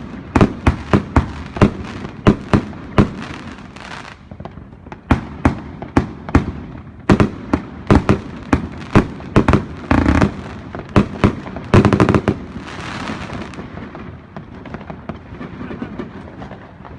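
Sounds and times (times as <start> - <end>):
firework bangs: 0.0 - 16.9
firework crackling: 0.0 - 16.9.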